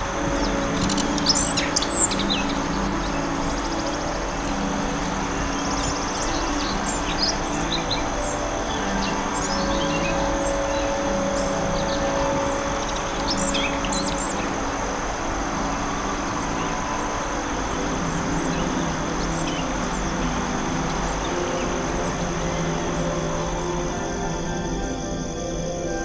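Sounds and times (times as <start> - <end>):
birds chirping: 0.0 - 25.4
ambient music drone: 0.0 - 26.0.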